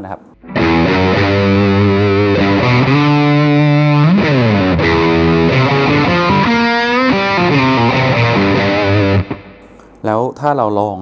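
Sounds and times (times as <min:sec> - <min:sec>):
distorted electric guitar riff: 0:00.3 - 0:10.0.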